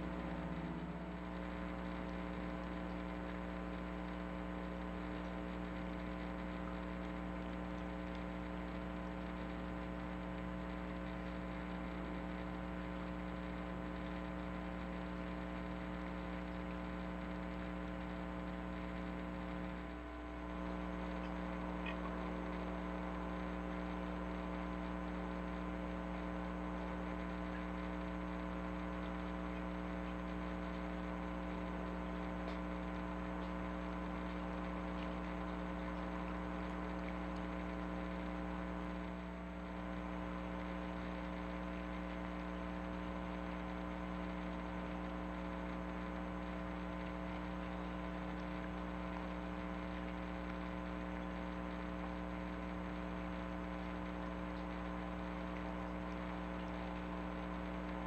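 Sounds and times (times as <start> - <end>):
electrical hum: 0.0 - 58.0.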